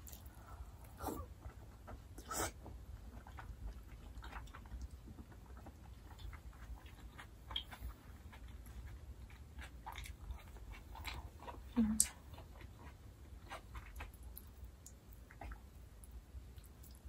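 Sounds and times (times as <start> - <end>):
person chewing noodles: 0.0 - 17.0.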